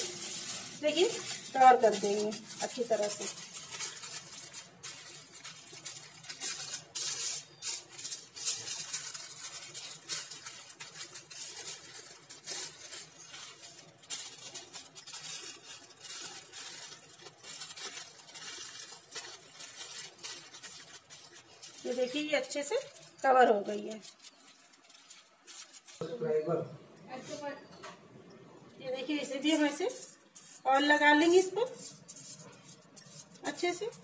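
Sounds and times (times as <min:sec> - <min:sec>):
aluminium foil crinkling: 0:00.0 - 0:26.4, 0:28.9 - 0:34.0.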